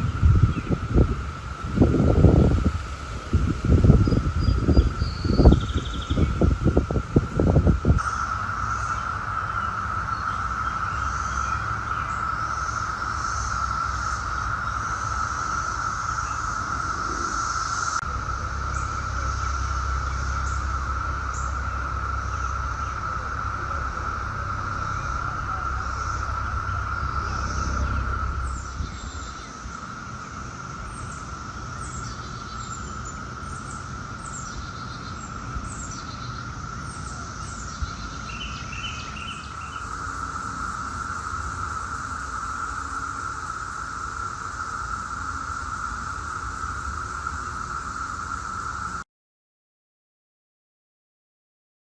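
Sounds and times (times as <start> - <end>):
low rumble: 0.0 - 47.9
cicadas droning chorus: 0.0 - 49.0.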